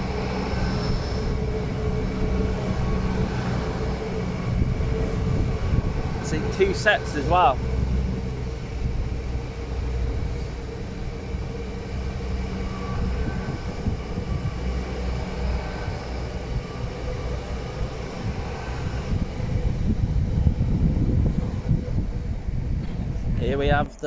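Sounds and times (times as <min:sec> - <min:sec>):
diesel train passing: 0:00.0 - 0:24.0
steady drone: 0:00.0 - 0:24.0.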